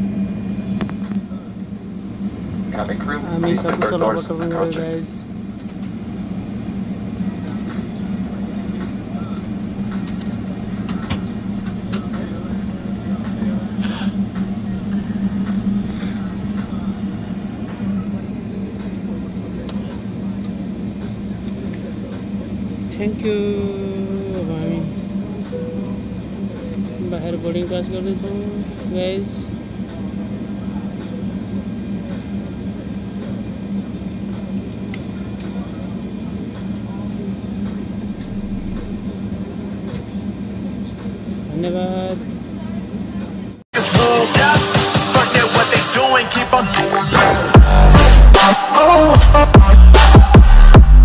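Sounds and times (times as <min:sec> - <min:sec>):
jet cabin hum: 0:00.0 - 0:51.0.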